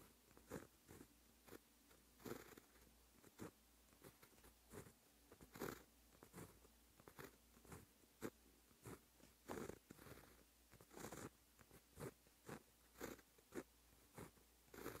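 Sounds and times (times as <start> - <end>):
pen scratching on paper: 0.0 - 15.0.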